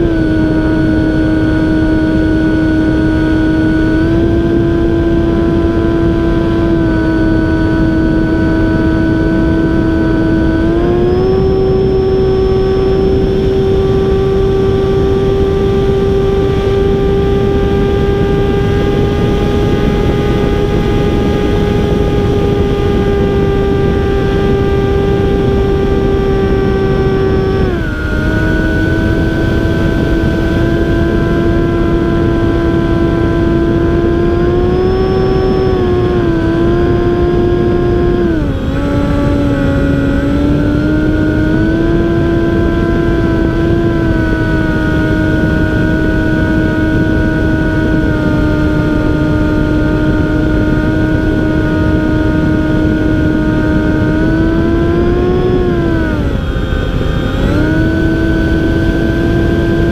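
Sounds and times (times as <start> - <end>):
model airplane motor drone: 0.0 - 59.9
rush of wind noise: 0.0 - 59.9.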